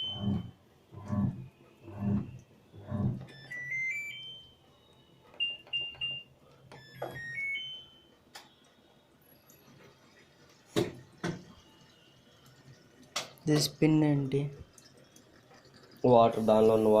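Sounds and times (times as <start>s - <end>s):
washing machine control panel beeping: 0.0s - 17.0s.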